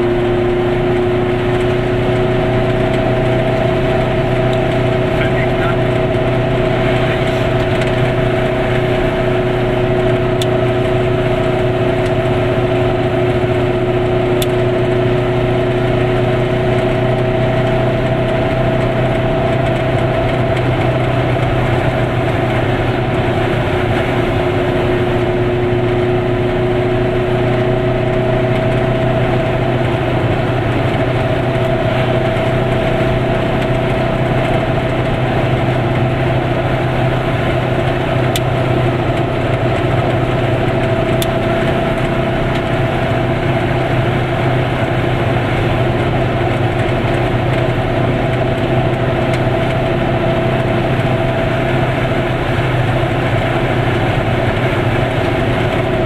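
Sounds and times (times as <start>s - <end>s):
road and wind noise: 0.0s - 56.0s
two-stroke car engine running: 0.0s - 56.0s.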